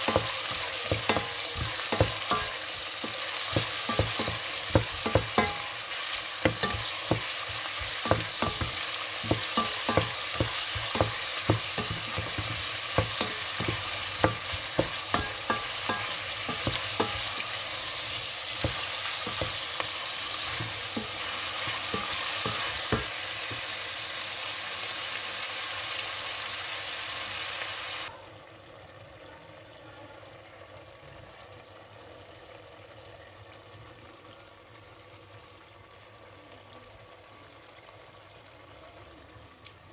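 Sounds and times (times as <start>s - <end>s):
meat sizzling in a pot: 0.0s - 39.9s.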